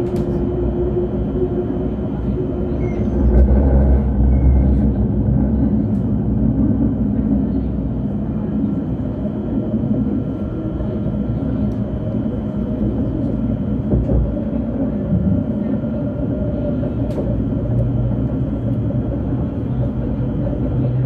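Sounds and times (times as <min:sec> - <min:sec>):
tram running gear rumble: 0:00.0 - 0:21.0.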